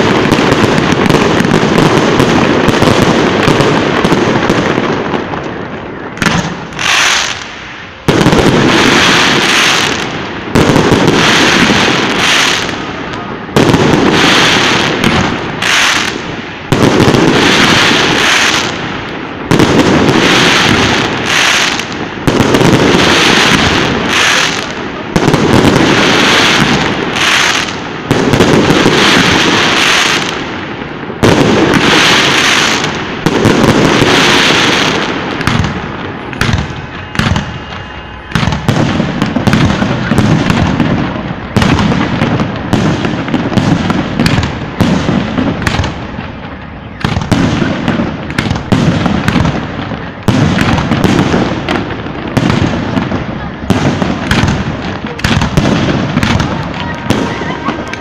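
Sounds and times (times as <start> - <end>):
fireworks bangs and crackling: 0.0 - 58.0
sharp fireworks pops: 0.0 - 58.0.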